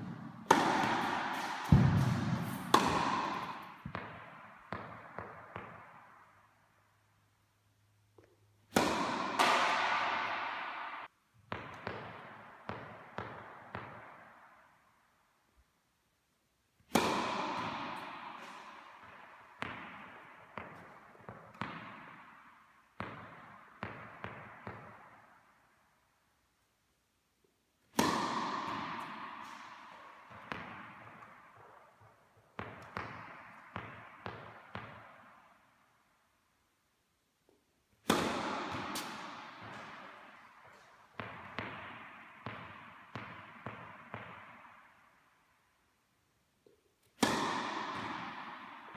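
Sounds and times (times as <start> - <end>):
tennis racket hitting ball: 0.0 - 7.0, 8.1 - 15.0, 16.8 - 25.8, 27.8 - 36.1, 37.7 - 45.4, 46.2 - 48.9
tennis balls bouncing: 0.0 - 7.2, 8.0 - 15.0, 16.8 - 25.8, 27.8 - 36.1, 37.4 - 48.9.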